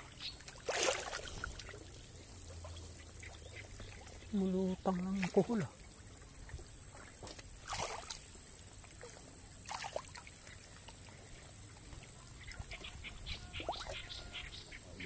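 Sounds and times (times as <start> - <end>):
water sloshing from wading: 0.0 - 15.0.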